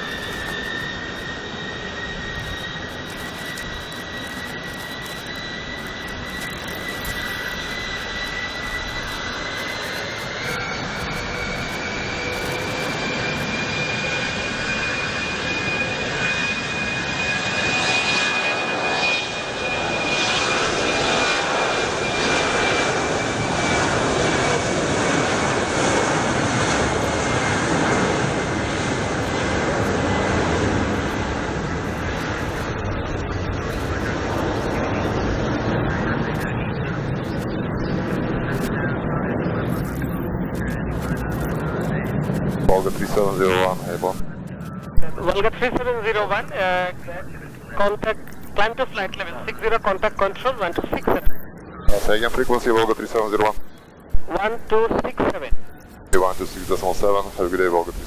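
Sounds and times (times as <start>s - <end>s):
jet engines at takeoff power: 0.0s - 58.0s.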